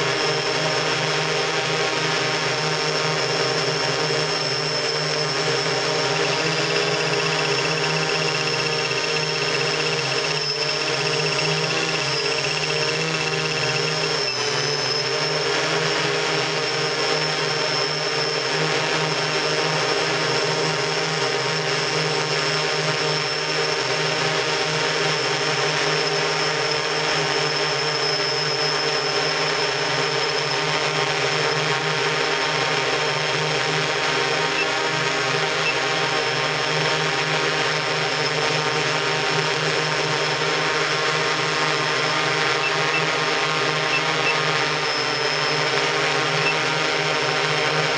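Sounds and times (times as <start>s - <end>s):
drone propellers droning: 0.0s - 47.9s.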